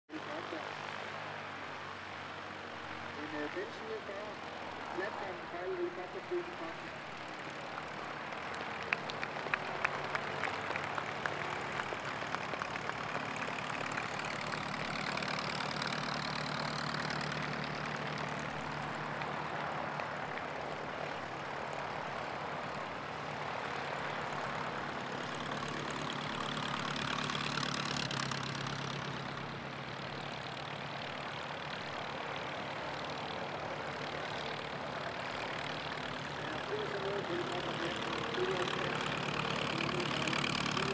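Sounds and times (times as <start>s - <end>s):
propeller plane engines: 0.1s - 40.9s.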